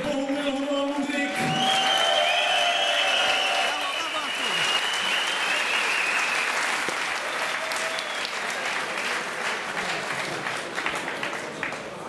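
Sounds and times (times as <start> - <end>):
crowd applauding: 0.2 - 12.0.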